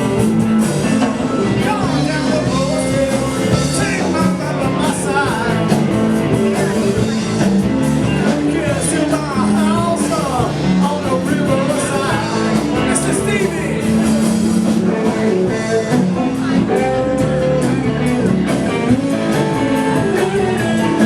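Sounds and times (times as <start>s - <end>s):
person singing: 0.0s - 18.0s
blues band playing: 0.0s - 21.0s.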